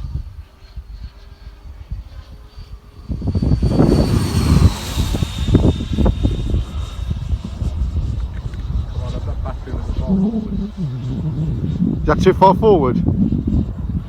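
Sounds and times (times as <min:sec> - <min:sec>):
model jet whining past: 0:00.0 - 0:14.0
wind buffeting microphone: 0:00.0 - 0:14.0.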